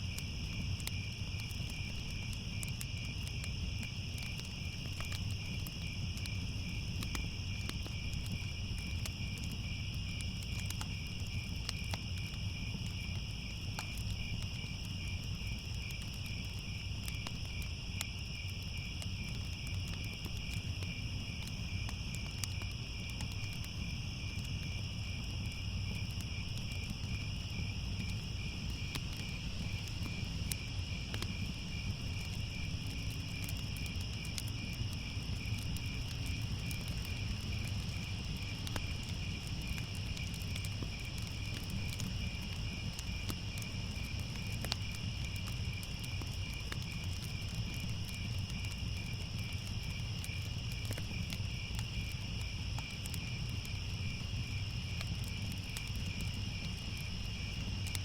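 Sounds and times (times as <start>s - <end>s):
crickets chirping: 0.0s - 58.0s
fire crackling and rumbling: 0.0s - 58.0s.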